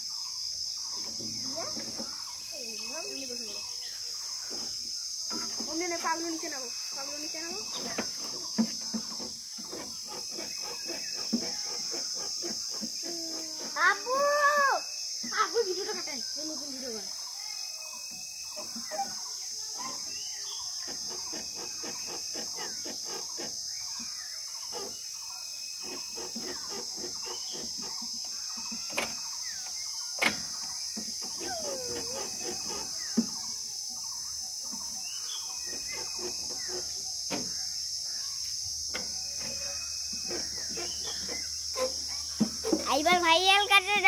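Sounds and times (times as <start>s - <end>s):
birds chirping and calling: 0.0s - 44.0s
high-pitched insect drone: 0.0s - 44.0s.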